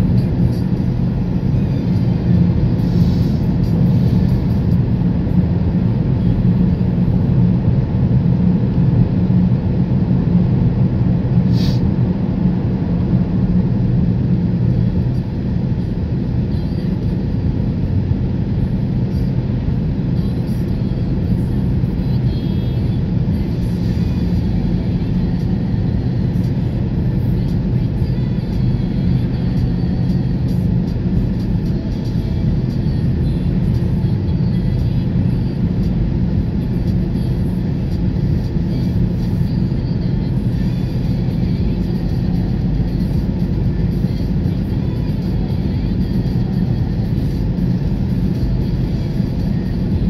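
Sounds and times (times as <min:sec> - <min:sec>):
car engine and tyre drone: 0:00.0 - 0:50.0.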